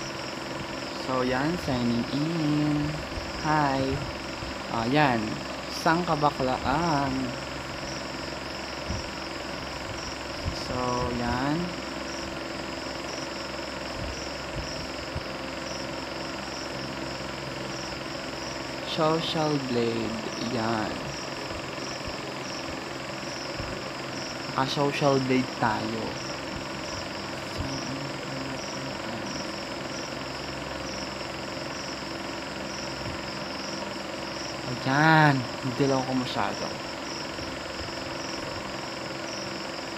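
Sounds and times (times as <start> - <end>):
background hum and hiss: 0.0 - 39.9.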